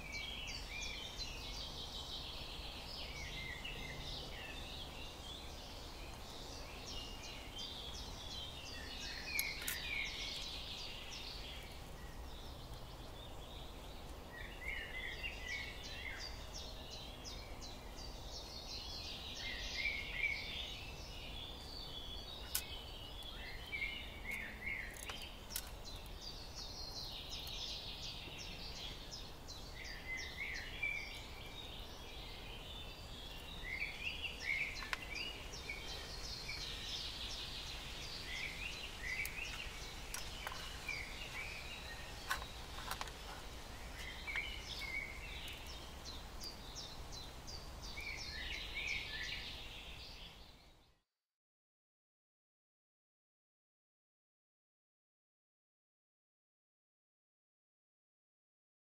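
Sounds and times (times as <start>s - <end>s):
small birds twittering: 0.0s - 51.0s.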